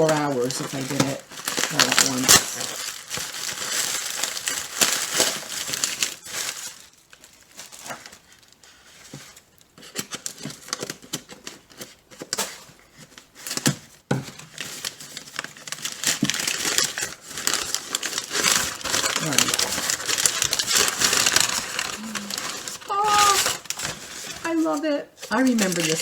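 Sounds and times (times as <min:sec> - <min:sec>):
packing material crinkling: 0:00.0 - 0:26.0.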